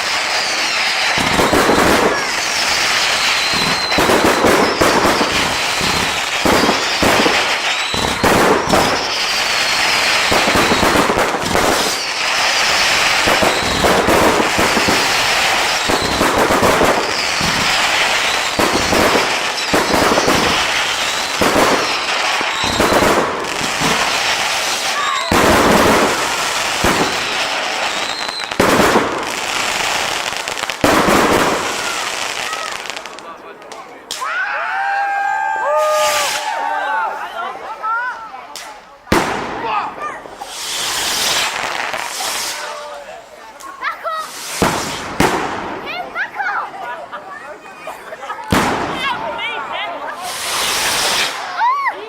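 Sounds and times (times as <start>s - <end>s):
falling whistling fireworks: 0.0s - 37.3s, 38.5s - 46.2s, 47.4s - 52.0s
fireworks crackling and banging: 0.0s - 52.0s.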